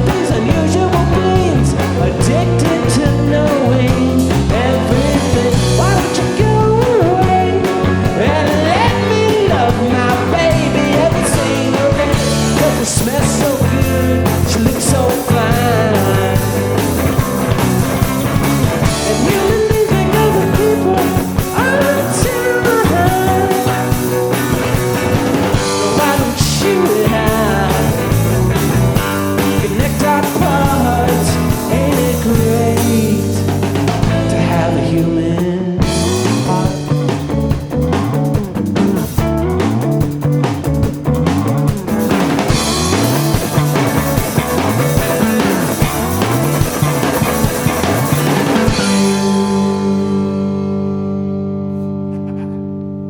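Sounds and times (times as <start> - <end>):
rock band playing live: 0.0 - 53.0.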